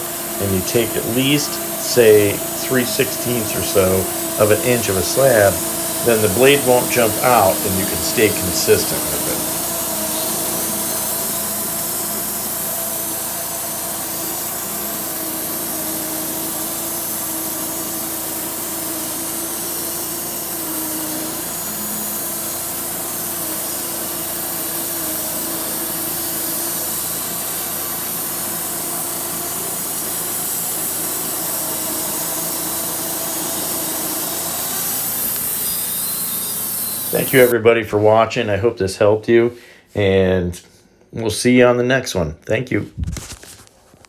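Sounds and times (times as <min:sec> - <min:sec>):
sawmill blade sawing wood: 0:00.0 - 0:37.6.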